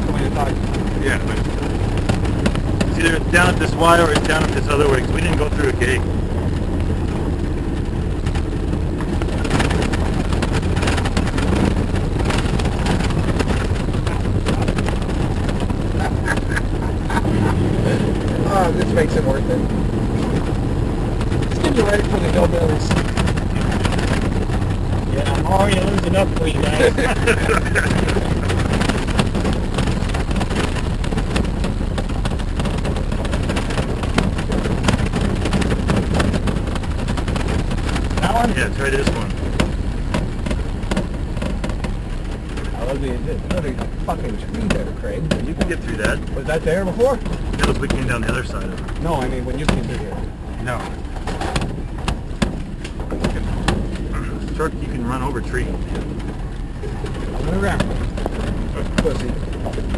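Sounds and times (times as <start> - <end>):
engine and road rumble: 0.0 - 59.9
vehicle knocks and rattles: 0.0 - 59.9.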